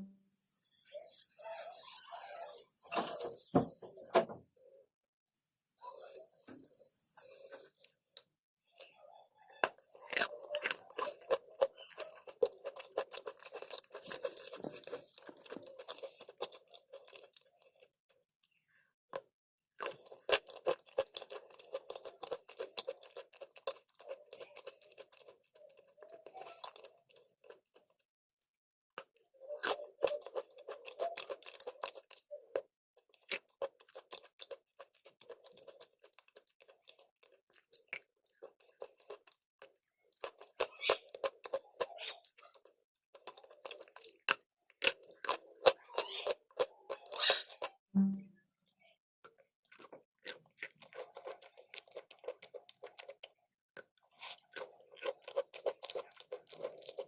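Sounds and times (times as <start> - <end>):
person chewing: 5.8 - 8.9, 9.6 - 28.0, 29.0 - 47.8, 49.3 - 57.0.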